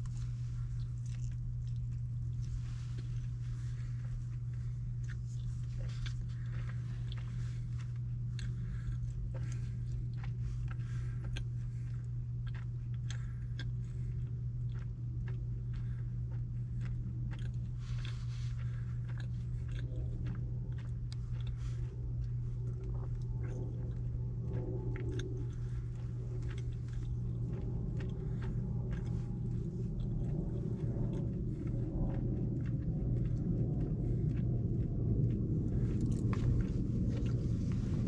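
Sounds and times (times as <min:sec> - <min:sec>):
close-up chewing: 0:00.0 - 0:38.0
steady low hum: 0:00.0 - 0:38.0.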